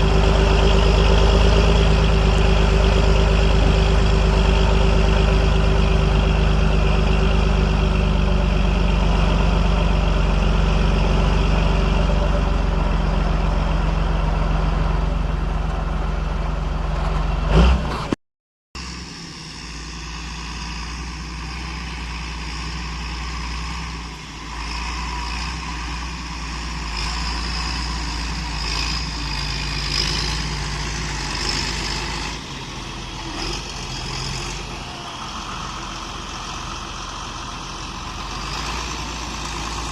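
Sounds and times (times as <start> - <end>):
tractor diesel engine running: 0.0 - 18.1, 18.8 - 39.9.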